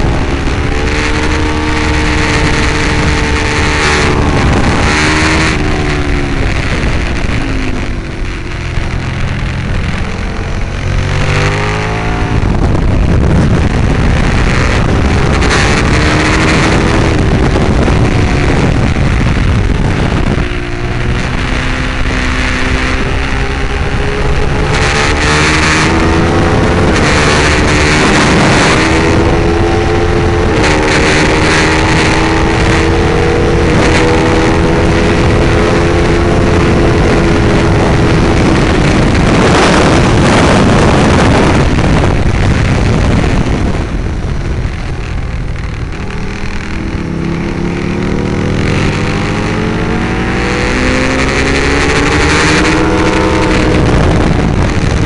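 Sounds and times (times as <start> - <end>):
motorcycle engine upshifting: 0.0 - 55.0.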